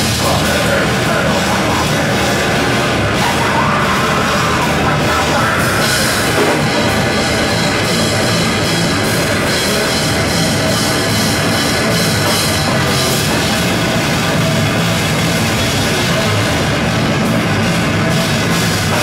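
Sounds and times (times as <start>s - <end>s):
distorted electric guitar: 0.0s - 19.0s
drum kit: 0.0s - 19.0s
electric bass guitar: 0.0s - 19.0s.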